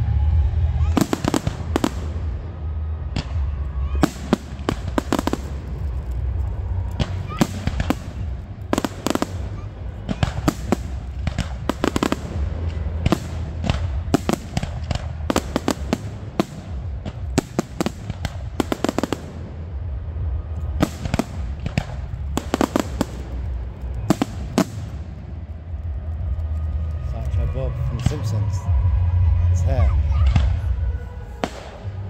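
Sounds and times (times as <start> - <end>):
fireworks bursting and crackling: 0.0 - 32.0
low rumble: 0.0 - 32.0.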